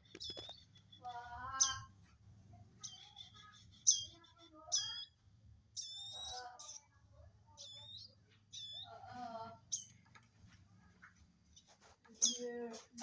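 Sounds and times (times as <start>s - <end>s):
baby birds chirping: 0.0s - 10.2s, 11.5s - 13.0s.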